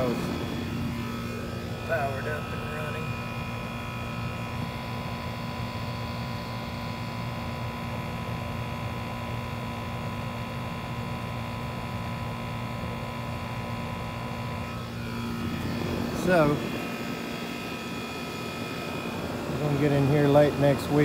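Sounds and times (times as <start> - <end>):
air conditioner units humming: 0.0 - 21.0.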